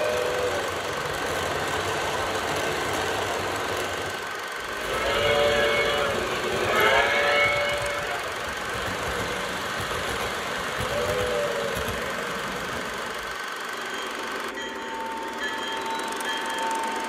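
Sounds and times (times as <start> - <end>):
model train rumbling on track: 0.0 - 17.0.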